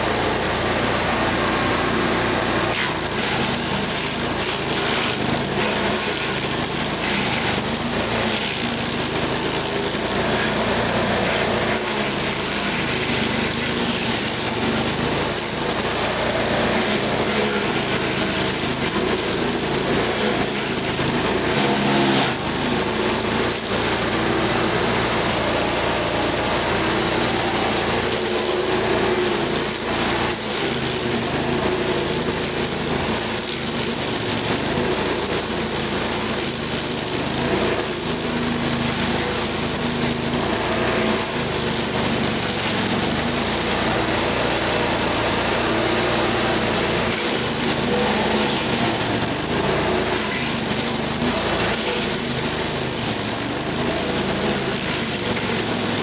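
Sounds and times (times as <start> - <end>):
stump grinder grinding wood: 0.0 - 56.0.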